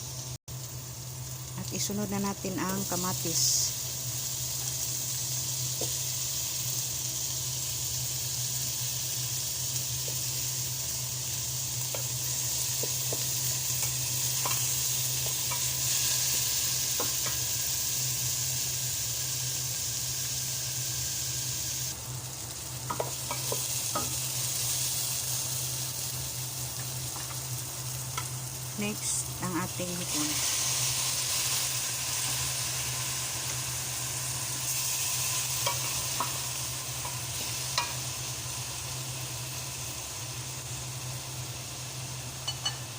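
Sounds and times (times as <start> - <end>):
vegetables sizzling in oil: 0.0 - 42.9.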